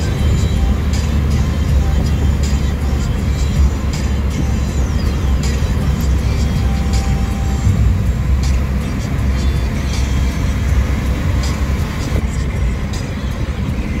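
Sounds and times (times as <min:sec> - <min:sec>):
tyre and engine rumble: 0:00.0 - 0:14.0
wind and road hiss: 0:00.0 - 0:14.0.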